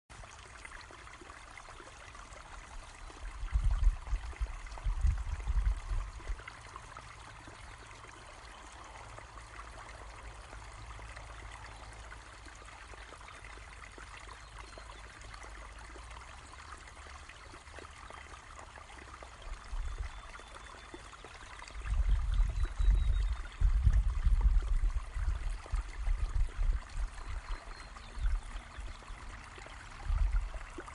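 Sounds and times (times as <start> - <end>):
spring water trickling and splashing: 0.1 - 30.9.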